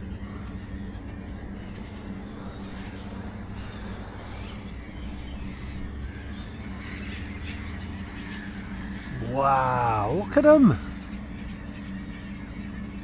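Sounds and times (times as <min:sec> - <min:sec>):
flock of birds calling: 0:00.0 - 0:13.0
steady low hum: 0:00.0 - 0:13.0.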